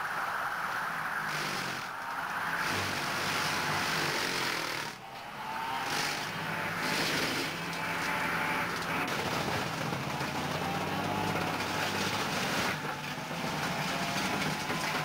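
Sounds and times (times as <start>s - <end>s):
tractor engine drone: 0.0s - 15.0s
mower cutting brush: 1.2s - 15.0s.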